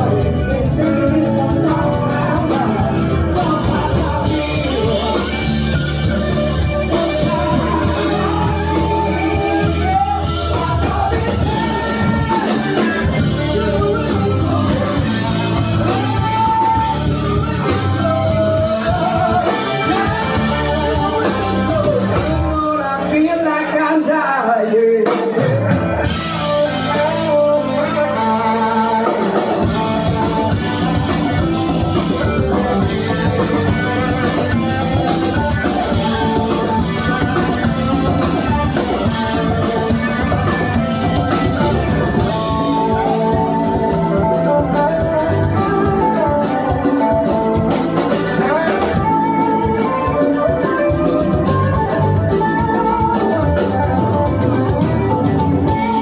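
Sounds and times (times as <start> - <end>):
drum kit: 0.0 - 23.8, 25.0 - 56.0
bass guitar: 0.0 - 56.0
electric guitar: 0.0 - 56.0
keyboards: 0.0 - 56.0.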